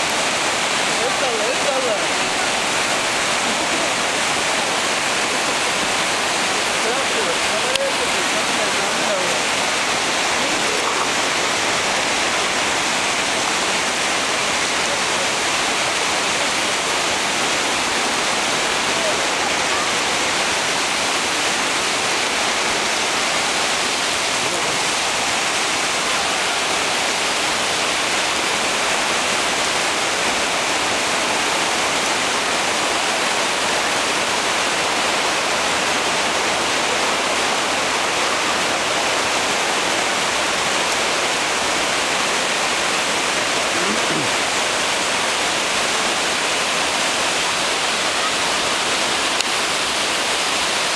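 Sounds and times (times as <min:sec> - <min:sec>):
stream rushing over rocks: 0:00.0 - 0:50.9.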